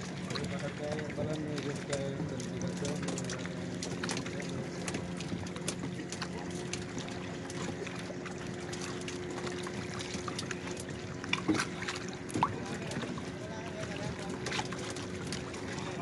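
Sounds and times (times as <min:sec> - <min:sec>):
boat engines humming: 0:00.0 - 0:16.0
knocks and splashes: 0:00.0 - 0:16.0.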